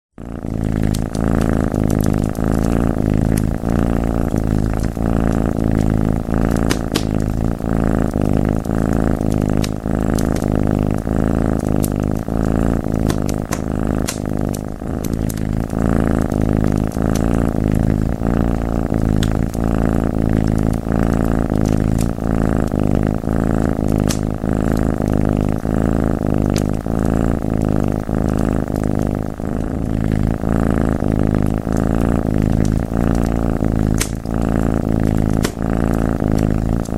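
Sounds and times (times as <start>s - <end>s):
cat purring: 0.1s - 36.9s
wood fire crackling: 0.6s - 36.9s.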